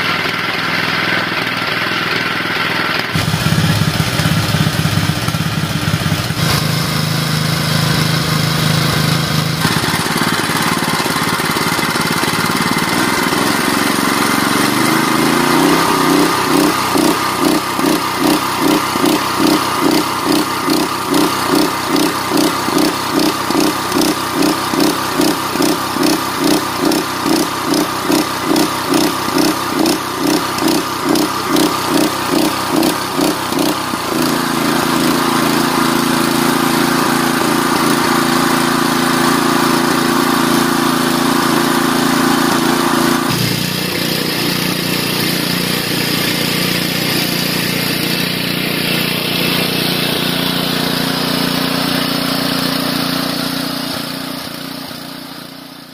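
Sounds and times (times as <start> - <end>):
water pump engine running: 0.0 - 55.9.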